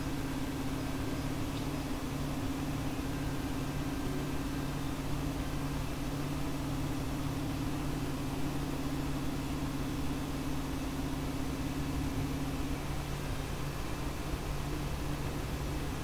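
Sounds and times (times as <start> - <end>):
cooling fans whirring: 0.0 - 16.0.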